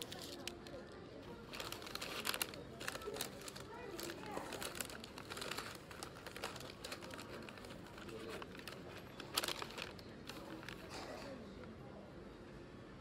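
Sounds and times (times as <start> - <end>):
paper bag crinkling: 0.0 - 11.1.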